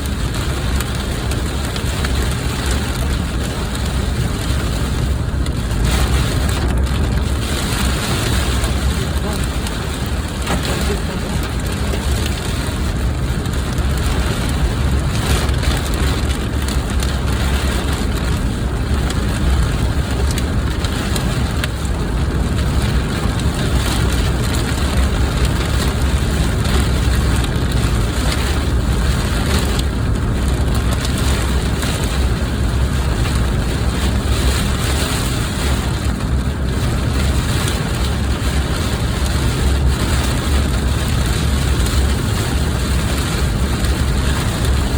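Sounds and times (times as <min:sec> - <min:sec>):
heavy rain on a car: 0:00.0 - 0:44.9
low rumble from car: 0:00.0 - 0:44.9.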